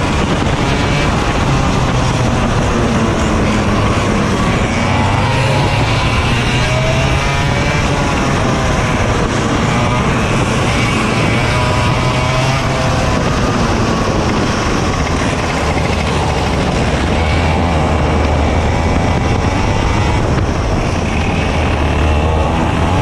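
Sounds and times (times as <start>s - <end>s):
racing kart engines: 0.0s - 23.0s.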